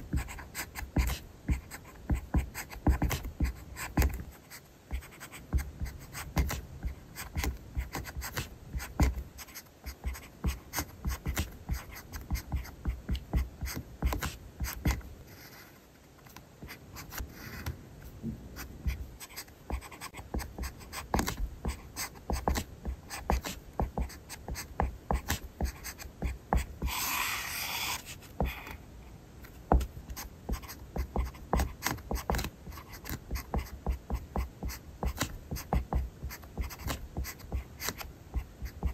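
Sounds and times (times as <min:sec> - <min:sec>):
pen scratching on paper: 0:00.0 - 0:15.8, 0:18.6 - 0:28.8, 0:29.7 - 0:38.9.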